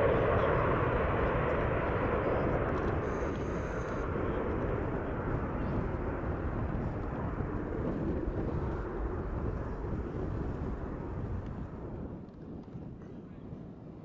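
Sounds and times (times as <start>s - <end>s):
jet engines rumbling: 0.0s - 13.6s.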